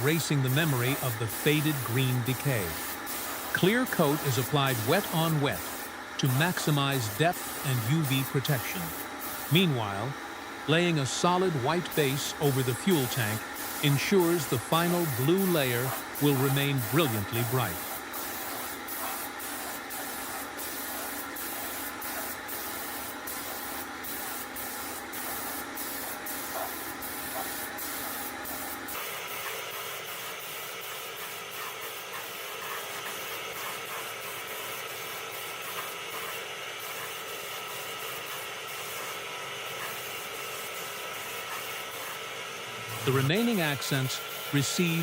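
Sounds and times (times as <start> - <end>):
paint spray gun hissing: 0.0 - 45.0.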